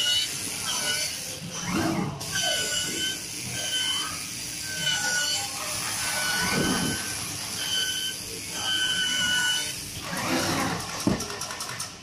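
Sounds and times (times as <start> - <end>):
cutting machine motor whines: 0.0 - 11.0.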